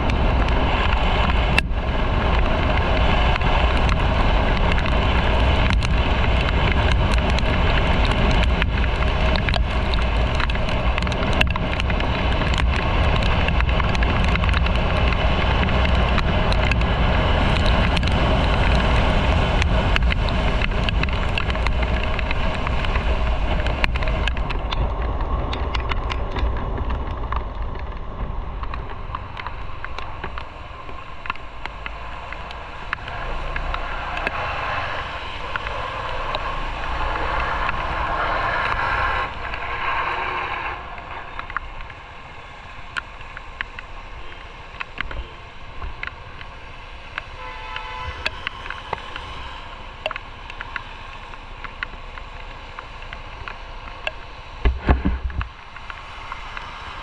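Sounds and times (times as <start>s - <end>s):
motorcycle road and engine noise: 0.0s - 57.0s
wind rushing over microphone: 0.0s - 57.0s.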